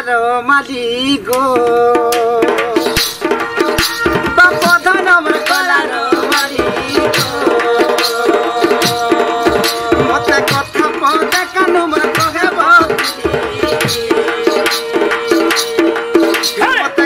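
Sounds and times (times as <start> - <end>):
men singing through microphones: 0.0 - 17.0
steady drum beat: 1.4 - 17.0.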